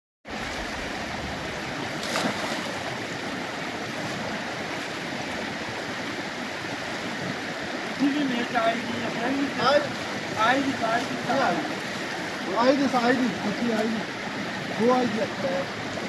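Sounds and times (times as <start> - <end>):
stream water flowing: 0.3 - 16.0.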